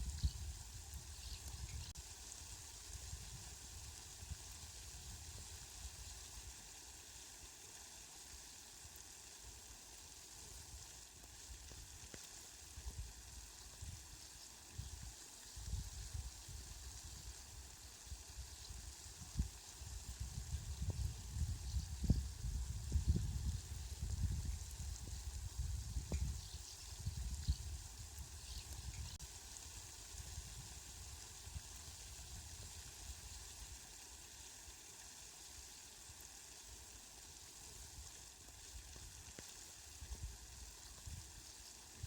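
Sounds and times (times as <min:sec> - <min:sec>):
rain hissing: 0:00.0 - 0:42.0.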